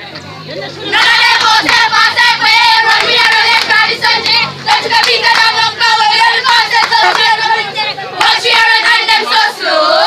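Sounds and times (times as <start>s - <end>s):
girls chanting a cheer: 0.9s - 10.0s.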